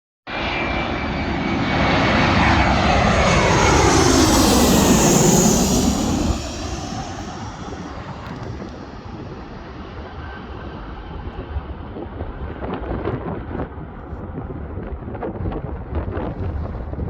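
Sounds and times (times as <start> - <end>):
aeroplane deep rumble and rushing: 0.3 - 17.0.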